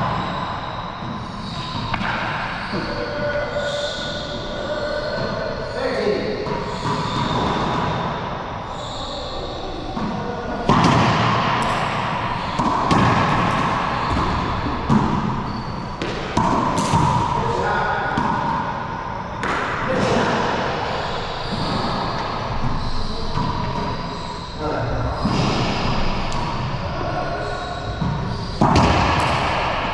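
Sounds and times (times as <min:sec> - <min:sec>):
racquetball hitting racquet and walls: 0:00.0 - 0:05.6, 0:06.3 - 0:29.9.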